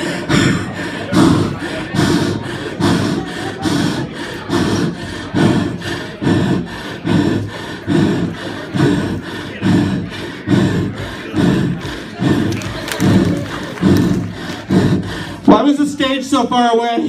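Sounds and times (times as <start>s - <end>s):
man panting heavily: 0.0s - 16.5s.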